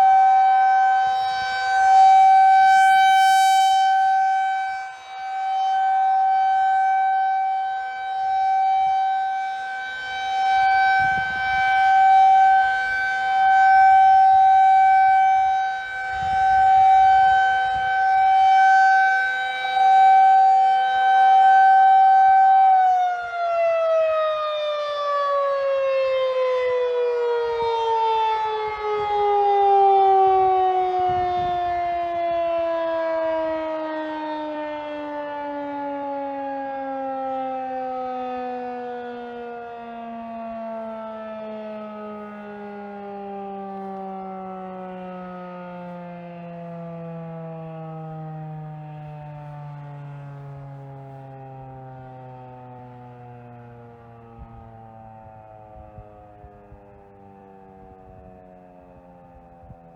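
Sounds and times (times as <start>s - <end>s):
rotating tornado siren: 0.0s - 59.9s.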